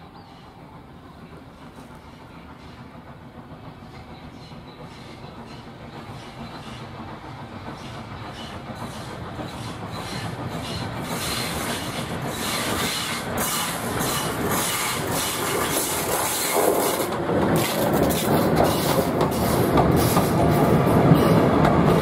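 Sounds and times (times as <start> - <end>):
steam locomotive exhaust beats: 0.0 - 22.0.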